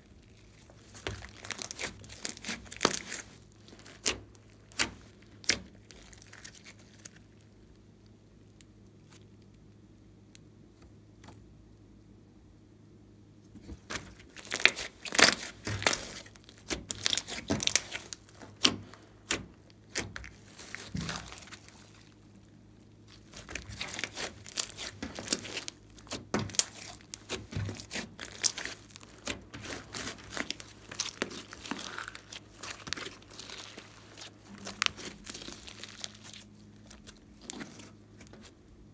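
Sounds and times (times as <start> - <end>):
slime squelching: 0.0 - 7.7, 13.6 - 38.6.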